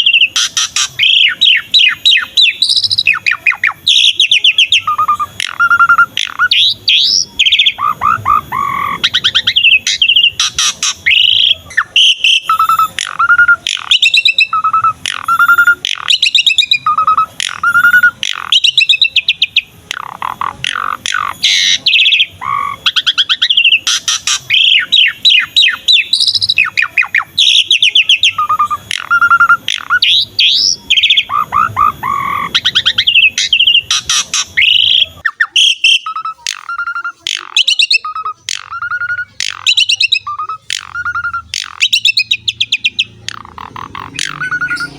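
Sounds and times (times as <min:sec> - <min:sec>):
starling singing with whistles: 0:00.0 - 0:44.9.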